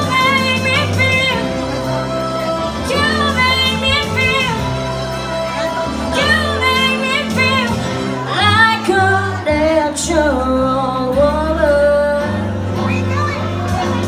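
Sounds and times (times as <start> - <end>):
instrumental accompaniment: 0.0 - 14.0
low bass notes: 0.0 - 14.0
woman singing into microphone: 0.0 - 14.0.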